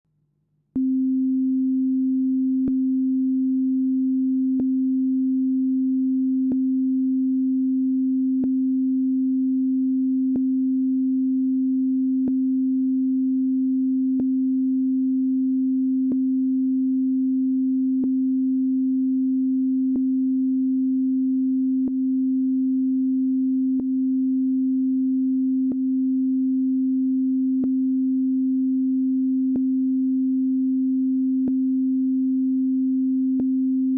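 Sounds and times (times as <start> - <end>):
steady sine tone: 0.7 - 33.9.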